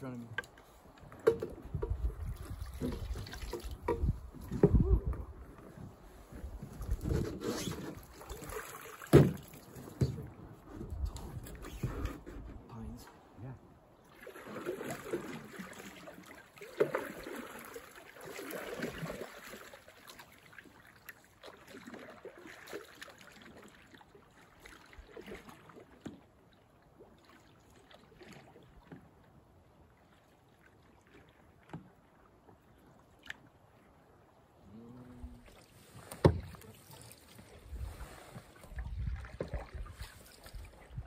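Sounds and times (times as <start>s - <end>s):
paddle splashing through water: 0.6s - 12.6s, 14.0s - 41.0s.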